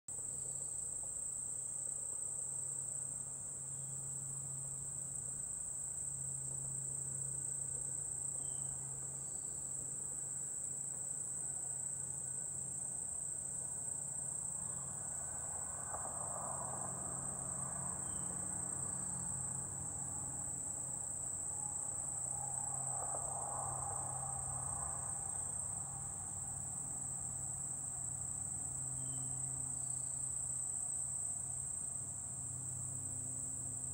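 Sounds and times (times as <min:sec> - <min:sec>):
insects droning: 0:00.2 - 0:33.9.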